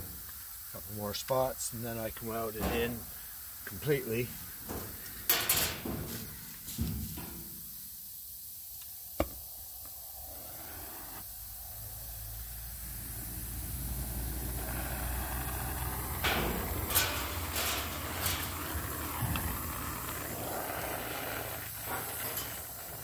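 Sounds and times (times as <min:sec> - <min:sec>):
welding torch flame hissing: 0:00.0 - 0:23.0.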